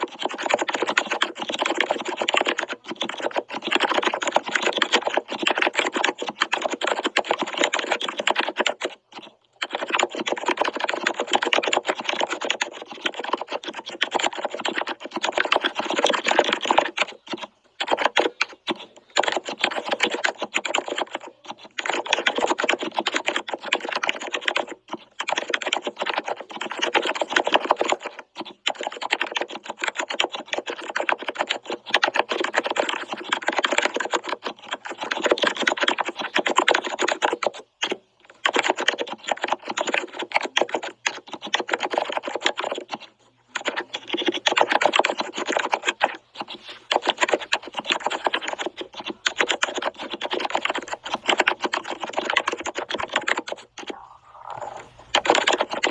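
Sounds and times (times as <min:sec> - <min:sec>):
fast typing on keyboard: 0:00.0 - 0:55.9.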